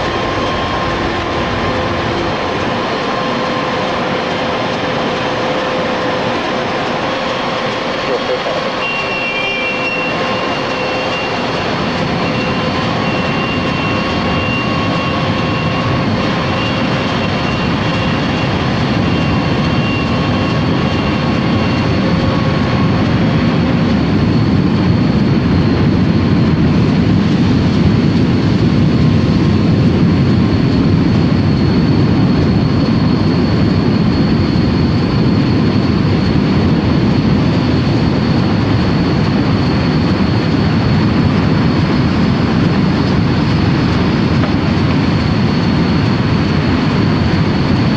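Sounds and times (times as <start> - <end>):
jet engines rushing: 0.0 - 47.9.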